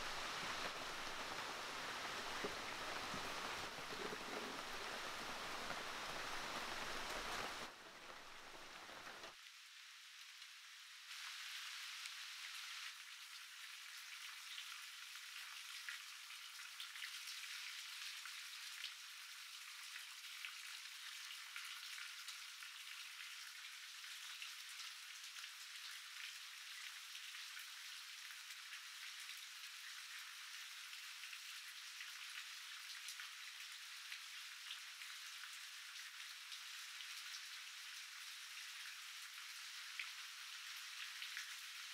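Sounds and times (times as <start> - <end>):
rain pattering and hissing: 0.0 - 41.9.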